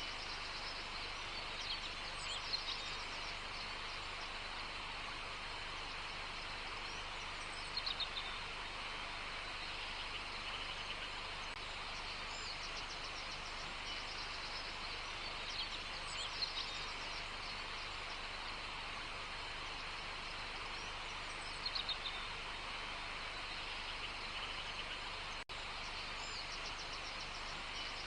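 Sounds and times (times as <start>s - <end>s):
outdoor ambience hiss: 0.0s - 28.0s
songbirds chirping: 0.0s - 28.0s.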